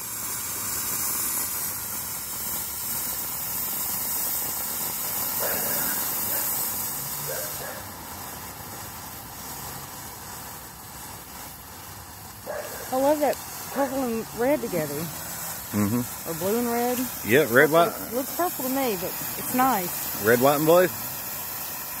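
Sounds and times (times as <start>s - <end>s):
firework fountain hissing: 0.0s - 22.0s.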